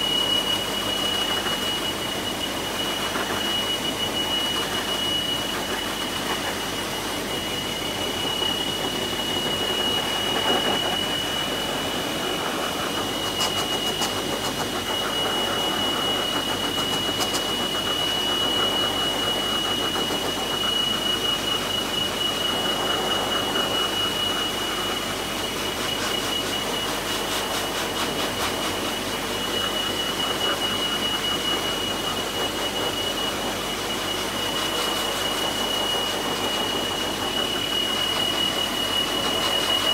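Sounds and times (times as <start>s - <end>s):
dryer blowing air: 0.0s - 39.9s
high-pitched whine: 0.0s - 39.9s.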